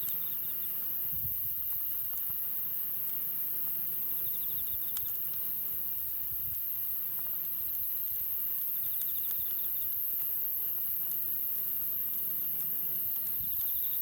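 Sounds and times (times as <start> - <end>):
insect chirping in pulsed trills: 0.0 - 14.0
campfire crackling and popping: 0.4 - 13.8.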